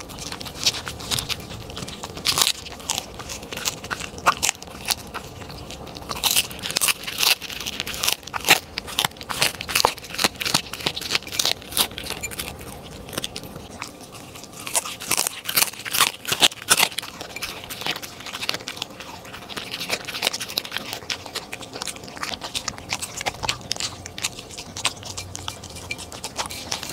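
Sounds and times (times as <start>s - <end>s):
dog crunching and chewing food: 0.0s - 26.9s
dog licking a plate: 0.0s - 26.9s.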